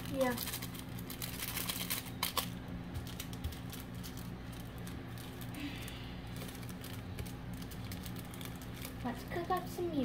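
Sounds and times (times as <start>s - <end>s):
plastic clicking and crackling: 0.0s - 5.6s, 6.3s - 9.7s
steady low hum: 0.0s - 10.0s.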